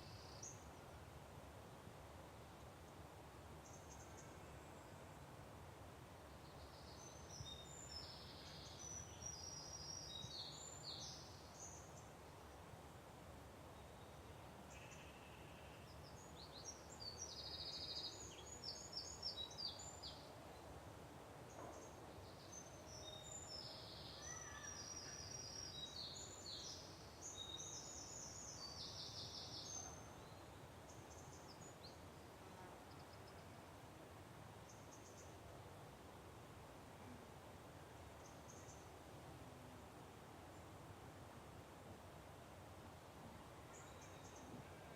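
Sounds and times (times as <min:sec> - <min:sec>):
faint background hiss: 0:00.0 - 0:44.9
songbirds chirping: 0:00.0 - 0:44.9.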